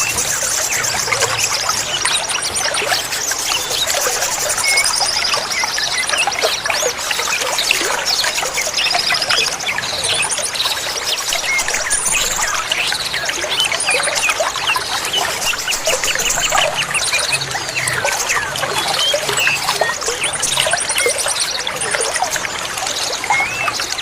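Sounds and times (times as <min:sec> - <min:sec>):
running water trickling: 0:00.0 - 0:24.0
songbirds chirping: 0:00.0 - 0:24.0.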